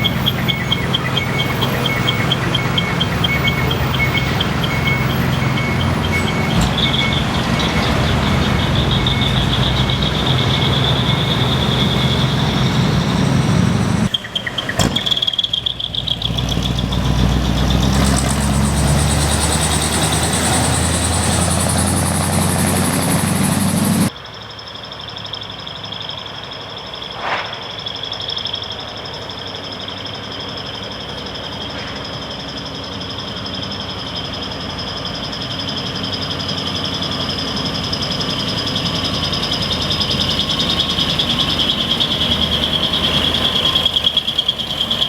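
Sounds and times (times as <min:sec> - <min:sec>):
truck engine running: 0:00.0 - 0:45.0.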